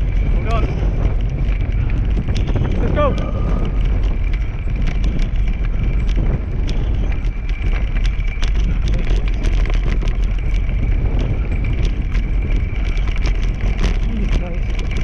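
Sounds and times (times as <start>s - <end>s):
rattles and clicks: 0.0s - 15.0s
wheels rumbling on grass: 0.0s - 15.0s
wind on microphone: 0.0s - 15.0s.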